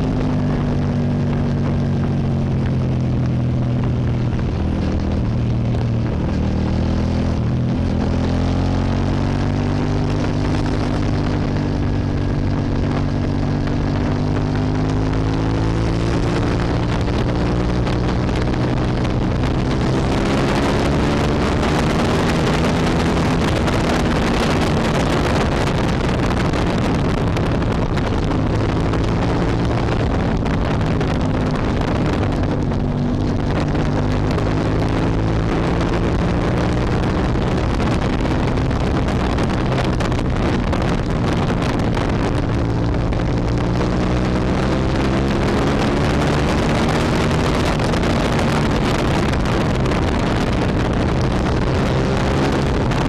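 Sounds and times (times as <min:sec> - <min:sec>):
motorcycle engine running: 0:00.0 - 0:53.0
wind rushing over microphone: 0:00.0 - 0:53.0.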